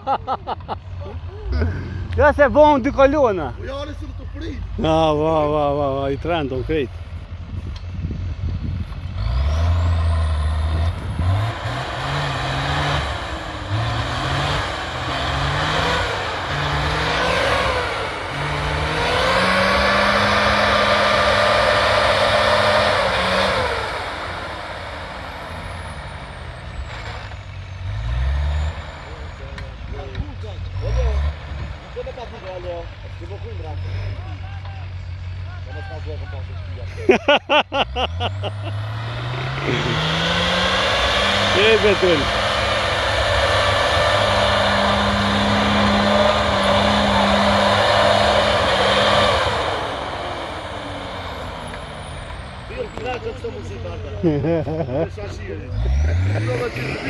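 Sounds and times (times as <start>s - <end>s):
lower engine note rising: 0.6s - 30.2s, 37.4s - 57.0s
motocross bike engine revving: 1.0s - 7.0s, 8.6s - 34.5s, 36.8s - 57.0s.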